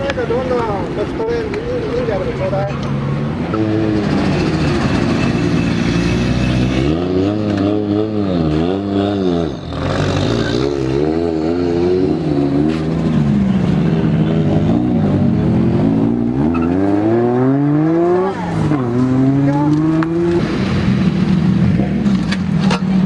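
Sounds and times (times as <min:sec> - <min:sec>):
car engine revving: 0:02.0 - 0:23.0.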